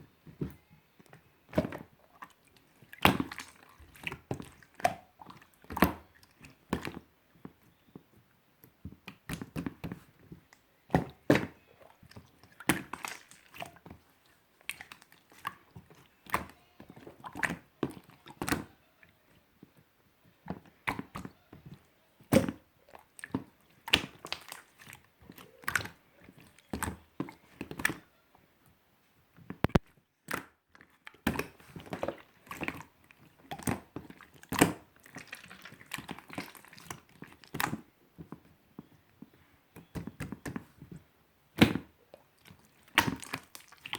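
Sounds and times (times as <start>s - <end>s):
faint slime crackling: 0.4s - 28.3s, 29.6s - 41.0s, 41.6s - 43.9s.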